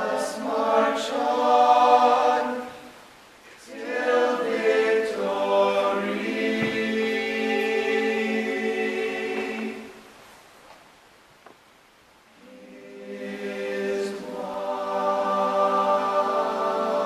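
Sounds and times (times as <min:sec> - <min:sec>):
choir singing sustained chords: 0:00.0 - 0:10.2, 0:12.3 - 0:17.0.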